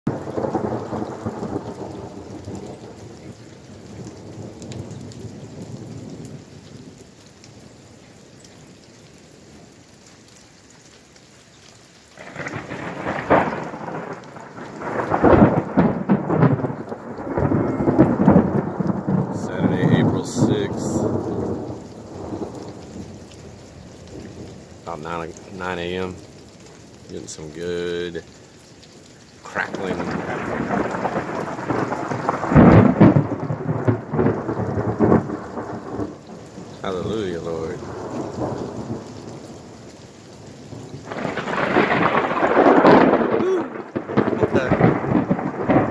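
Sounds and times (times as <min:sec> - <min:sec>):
steady rain: 0:00.0 - 0:45.9
rolling thunder: 0:00.1 - 0:07.0, 0:12.2 - 0:26.3, 0:29.5 - 0:45.9.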